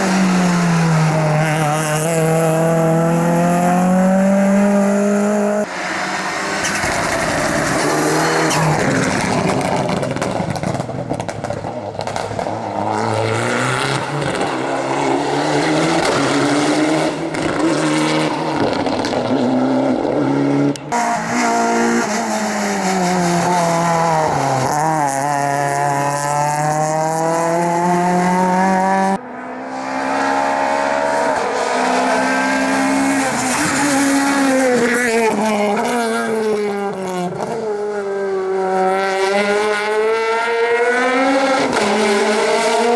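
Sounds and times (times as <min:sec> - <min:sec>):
rally cars engines revving: 0:00.0 - 0:42.9.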